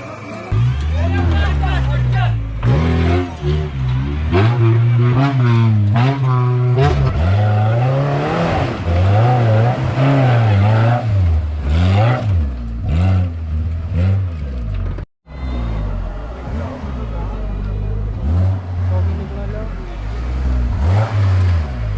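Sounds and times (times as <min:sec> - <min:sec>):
off-road engine revving: 0:00.5 - 0:21.9.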